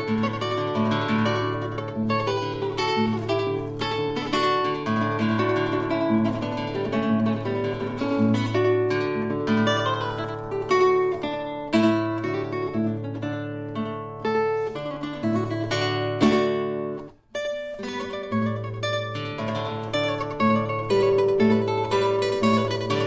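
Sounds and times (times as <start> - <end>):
plucked acoustic guitar music: 0.0 - 23.0.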